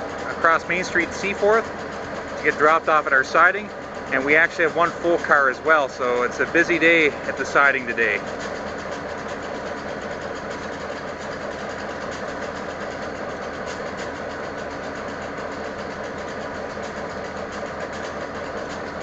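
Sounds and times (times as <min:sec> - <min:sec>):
diesel locomotives idling: 0:00.0 - 0:19.0.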